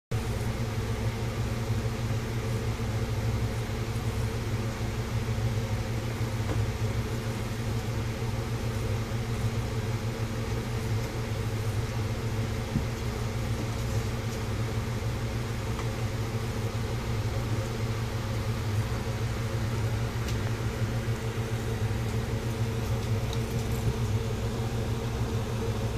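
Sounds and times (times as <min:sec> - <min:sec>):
household appliance humming: 0:00.2 - 0:25.9.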